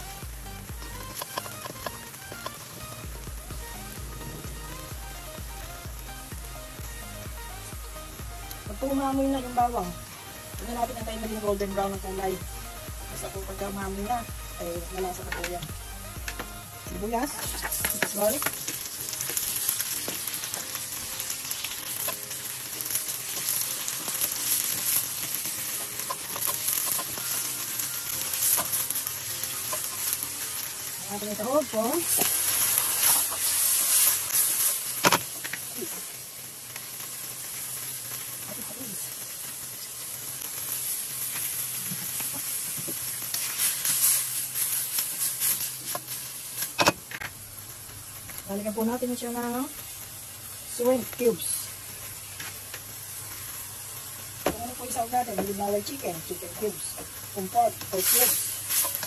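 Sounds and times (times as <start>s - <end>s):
onions sizzling in hot oil: 0.0s - 59.0s.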